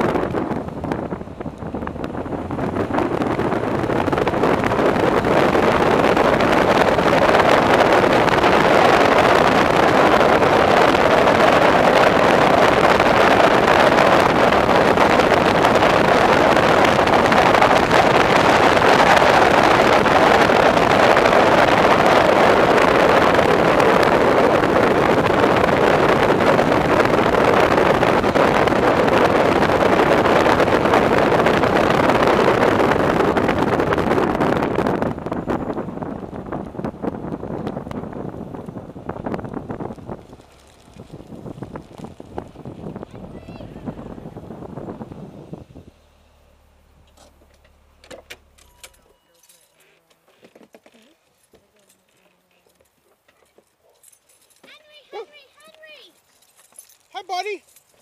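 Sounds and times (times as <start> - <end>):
rushing wind noise: 0.0 - 48.6
car driving noise: 0.0 - 58.0.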